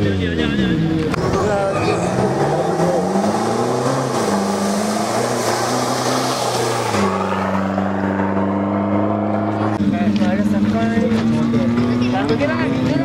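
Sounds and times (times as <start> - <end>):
vehicle engine running: 0.1 - 13.0.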